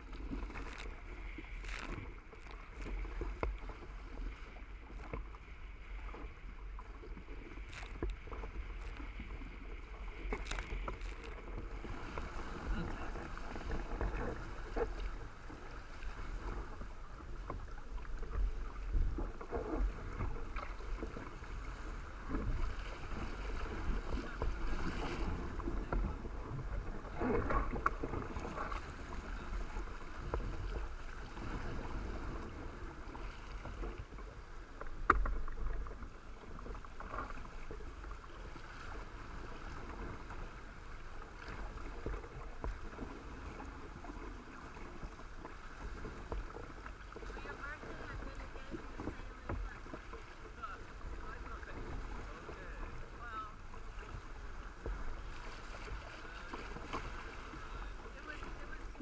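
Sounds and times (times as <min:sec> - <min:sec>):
water slapping against hull: 0:00.0 - 0:59.0
water splashes: 0:00.0 - 0:59.0.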